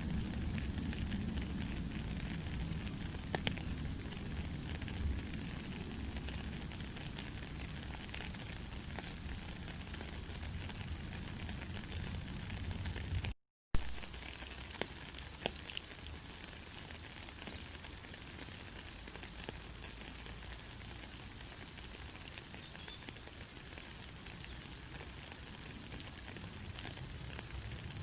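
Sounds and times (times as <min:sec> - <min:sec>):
faint crackles: 0:00.0 - 0:28.0.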